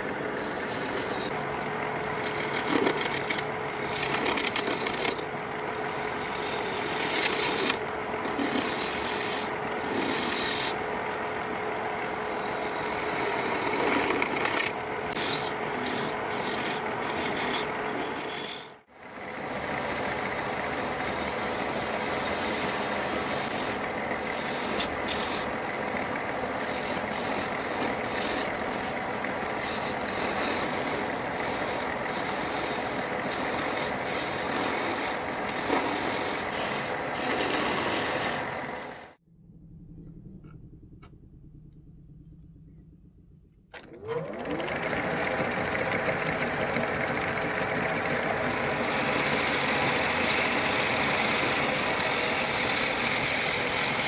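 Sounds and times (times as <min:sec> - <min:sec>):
turning tool scraping wood: 0:00.0 - 0:11.3, 0:12.0 - 0:18.8, 0:19.5 - 0:39.2, 0:44.7 - 0:54.0
wood lathe hum: 0:00.0 - 0:39.2, 0:43.7 - 0:54.0.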